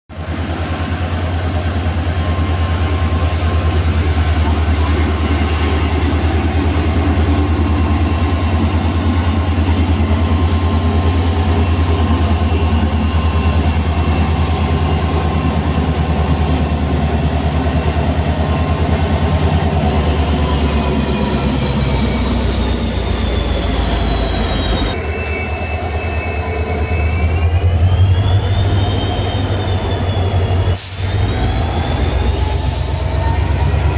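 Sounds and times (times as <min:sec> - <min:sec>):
high steady whines: 0:00.1 - 0:33.9
locomotive diesel drone: 0:00.1 - 0:33.9.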